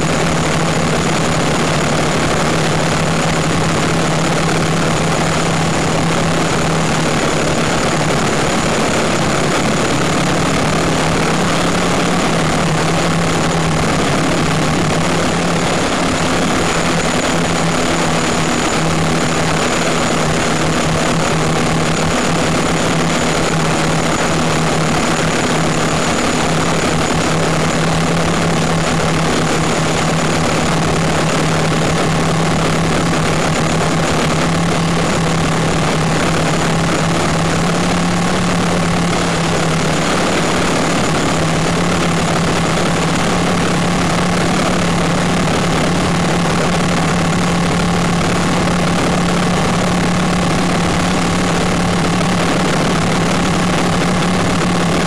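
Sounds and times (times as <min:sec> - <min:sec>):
drone motors and propellers: 0:00.0 - 0:55.0
rushing wind noise: 0:00.0 - 0:55.0.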